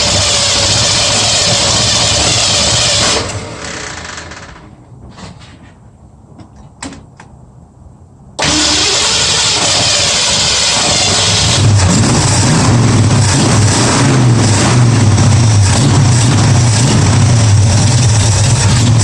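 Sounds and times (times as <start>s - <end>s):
car engine starting and running: 0.0s - 4.9s, 8.4s - 19.0s.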